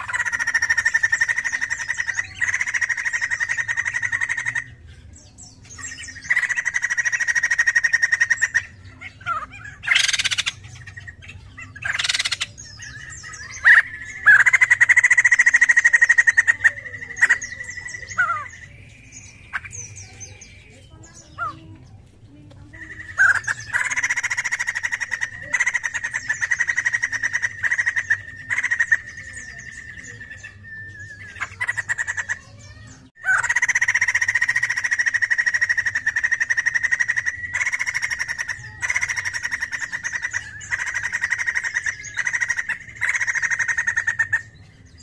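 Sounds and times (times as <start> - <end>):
bird rattling trills: 0.0 - 4.8, 5.7 - 21.8, 22.7 - 30.5, 31.1 - 44.5
bird harsh screeching squawks: 0.0 - 4.9, 5.7 - 21.7, 22.8 - 45.0.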